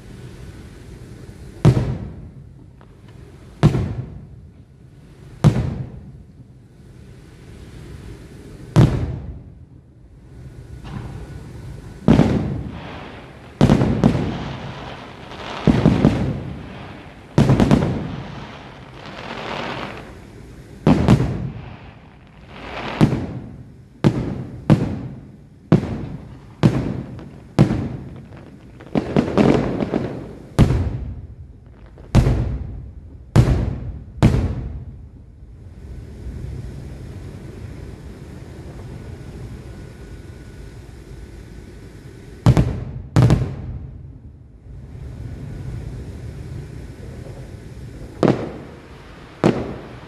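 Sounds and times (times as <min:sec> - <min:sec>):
fireworks booming with echo: 0:00.0 - 0:50.0.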